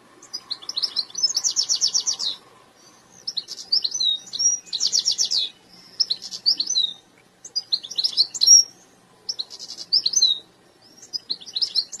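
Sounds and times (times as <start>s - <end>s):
canary singing: 0.2s - 12.0s.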